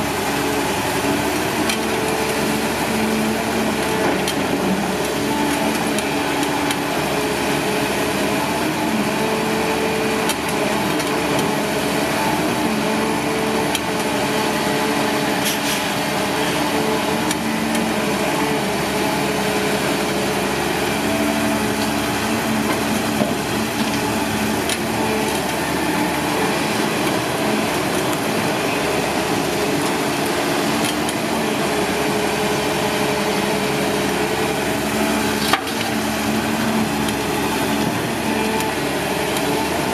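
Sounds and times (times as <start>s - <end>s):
excavator engine and hydraulics: 0.0s - 39.9s.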